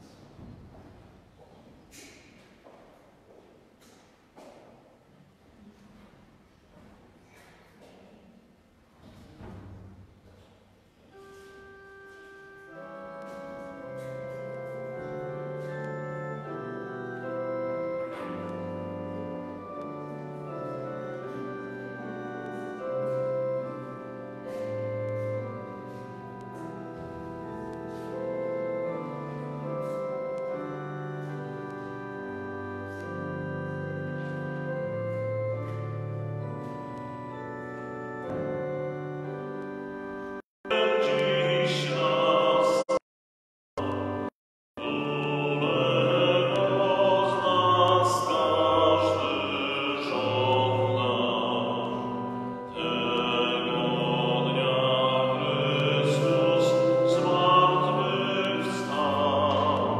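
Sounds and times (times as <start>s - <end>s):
church organ playing chords: 11.0s - 43.0s, 43.8s - 59.9s.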